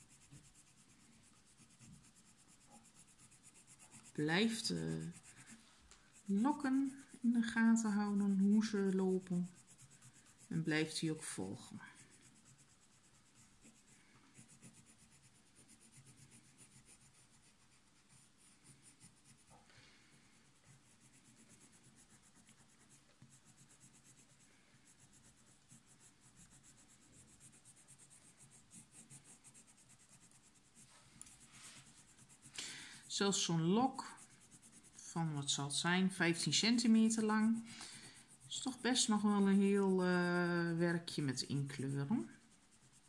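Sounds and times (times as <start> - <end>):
pencil scratching on paper: 0.0 - 43.0.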